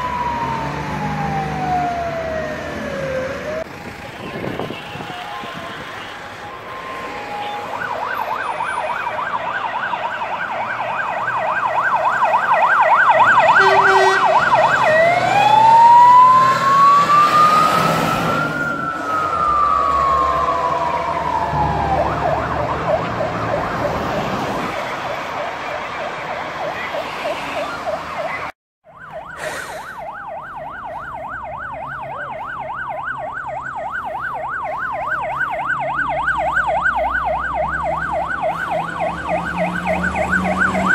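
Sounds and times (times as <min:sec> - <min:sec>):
fire engine sirens: 0:00.0 - 0:40.9
truck engines rumbling: 0:00.0 - 0:40.9.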